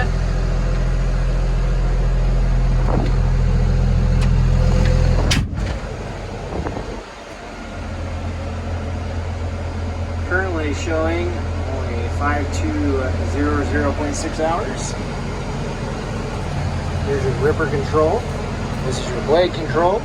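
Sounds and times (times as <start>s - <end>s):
bulldozer diesel engine idling: 0.0s - 20.0s.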